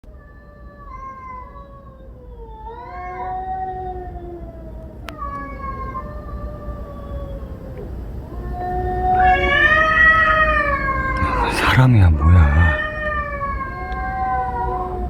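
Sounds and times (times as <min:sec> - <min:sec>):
cats yowling: 0:00.1 - 0:15.0.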